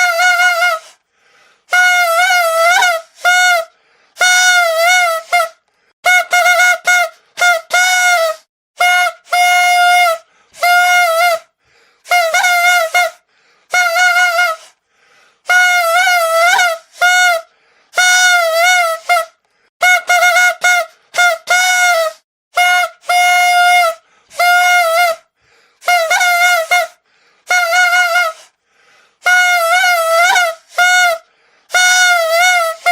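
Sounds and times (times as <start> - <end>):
toy trumpet honking blasts: 0.0 - 1.0, 1.7 - 14.7, 15.4 - 28.5, 29.2 - 32.9.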